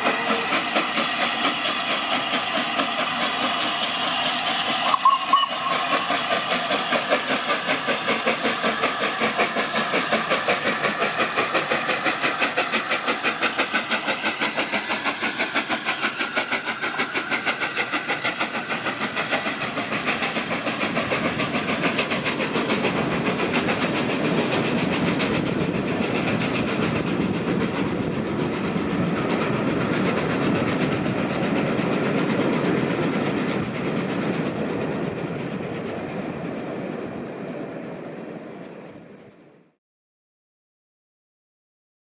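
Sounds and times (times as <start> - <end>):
wheels clicking on rails: 0.0 - 37.3
steam locomotive exhaust beats: 0.0 - 39.5.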